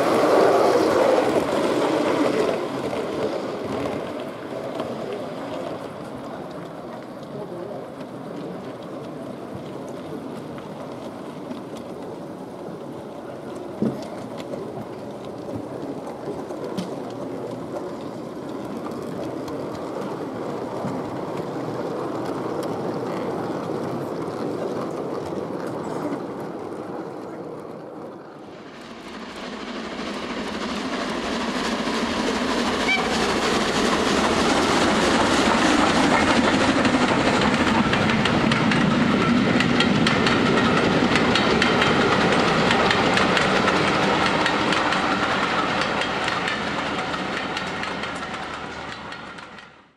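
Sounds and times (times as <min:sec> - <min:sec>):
model train wheels rumbling: 0:00.0 - 0:49.9.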